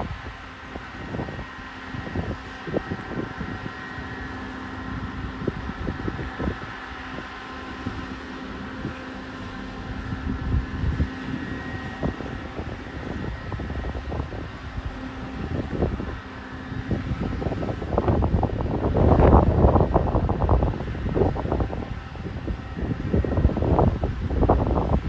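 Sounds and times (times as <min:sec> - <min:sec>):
diesel engine humming: 0:00.0 - 0:25.0
wind buffeting microphone: 0:00.0 - 0:25.0.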